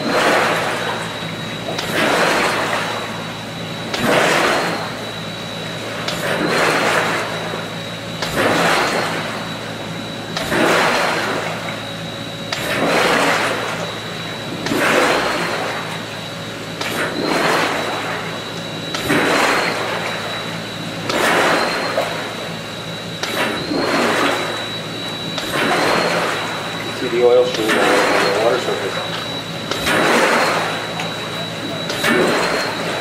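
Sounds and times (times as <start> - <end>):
faint high whine: 0.0 - 33.0
steady low hum: 0.0 - 33.0.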